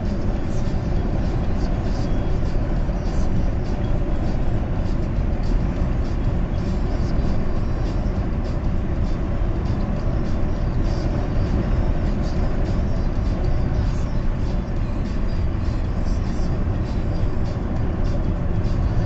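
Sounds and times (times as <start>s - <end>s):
road and wind noise inside car: 0.0s - 19.0s.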